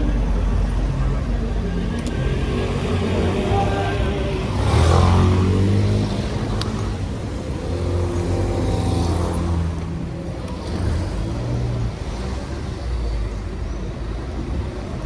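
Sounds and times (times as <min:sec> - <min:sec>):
vehicle passing close: 0:00.0 - 0:13.3
traffic engines running: 0:00.0 - 0:15.0.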